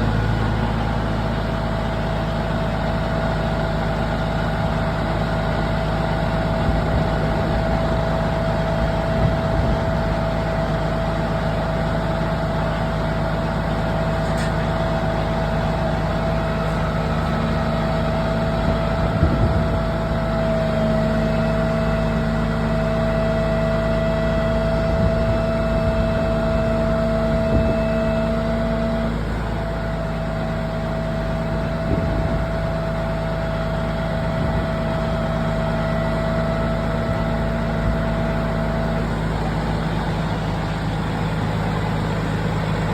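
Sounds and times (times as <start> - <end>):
heavy vehicle engine idling: 0.0 - 42.9.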